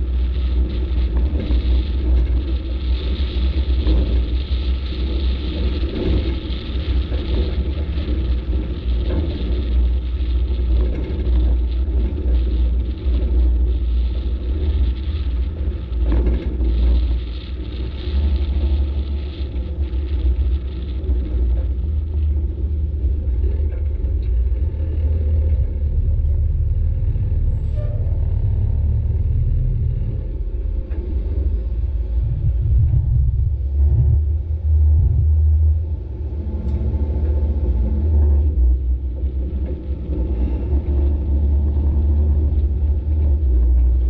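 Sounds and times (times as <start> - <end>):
truck engine low rumble: 0.0 - 44.0.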